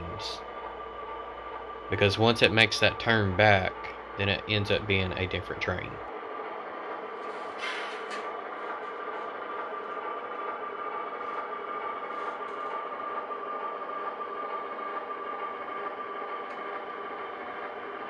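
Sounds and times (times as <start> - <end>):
diesel engine sound from small speaker: 0.0 - 18.0.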